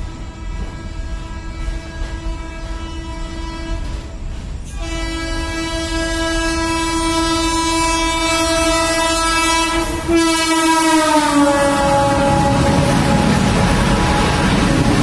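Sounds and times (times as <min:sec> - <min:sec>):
train horn blasts: 0:00.0 - 0:04.1, 0:04.7 - 0:15.0
rush of passing train coaches: 0:00.0 - 0:15.0.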